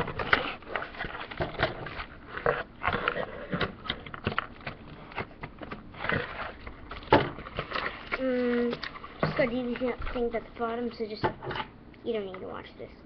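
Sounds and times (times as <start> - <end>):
packaging crinkling and scraping: 0.0 - 11.7.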